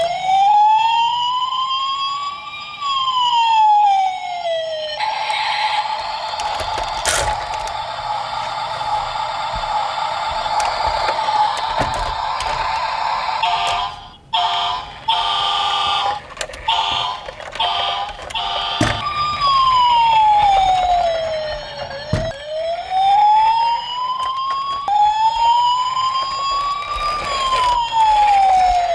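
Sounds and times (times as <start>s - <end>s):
toy siren wailing: 0.0s - 28.9s.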